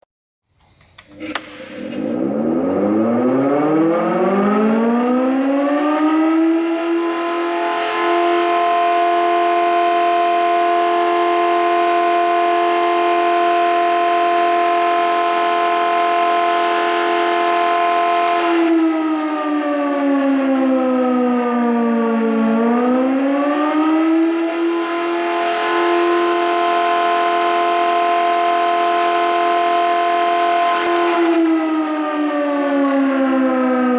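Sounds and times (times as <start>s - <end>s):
emergency warning siren wailing: 1.1s - 33.9s.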